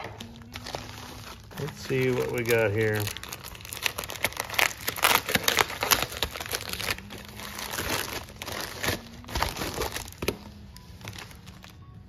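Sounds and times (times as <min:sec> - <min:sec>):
paper envelope crinkling and tearing: 0:00.0 - 0:11.8.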